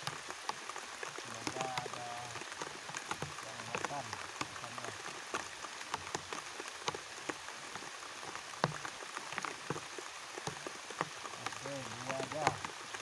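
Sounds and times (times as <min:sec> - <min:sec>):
rain falling: 0:00.0 - 0:13.0
raindrops ticking: 0:00.0 - 0:13.0.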